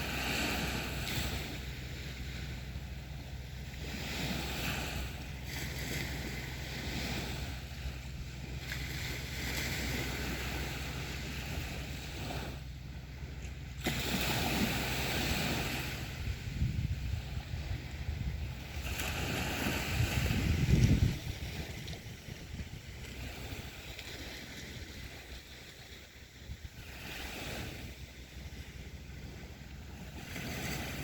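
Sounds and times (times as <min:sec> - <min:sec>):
sea waves breaking on beach: 0:00.0 - 0:31.0.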